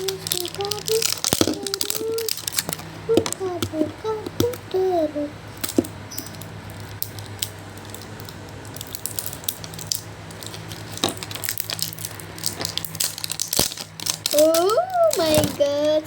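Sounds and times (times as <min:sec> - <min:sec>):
plastic packaging clicks and crackles: 0:00.0 - 0:04.8, 0:05.6 - 0:16.0
steady low hum: 0:00.0 - 0:16.0.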